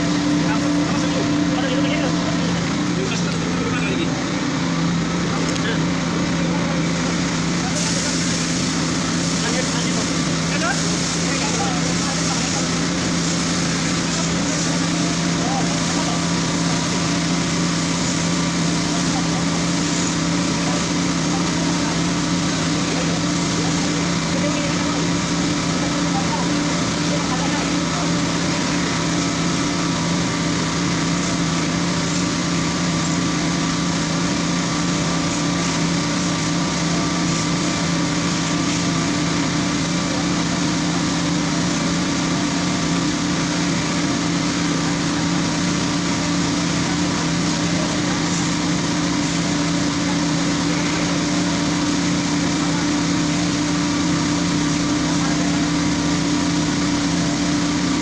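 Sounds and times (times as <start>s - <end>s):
small engine droning: 0.0s - 58.0s.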